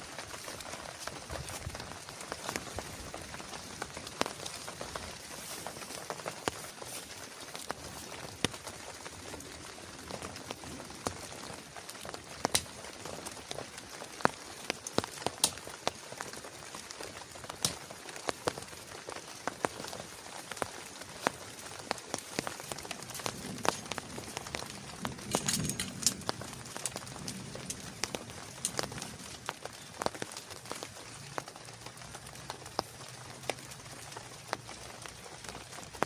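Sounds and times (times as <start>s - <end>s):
raindrops ticking close by: 0.0s - 36.0s
steady rain hiss: 0.0s - 36.0s.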